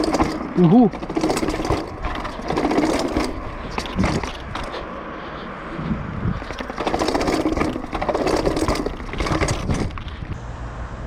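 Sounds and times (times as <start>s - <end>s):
bike rattling and clicking: 0.0s - 5.4s, 6.3s - 10.4s
bike tyres rumbling: 0.0s - 10.4s.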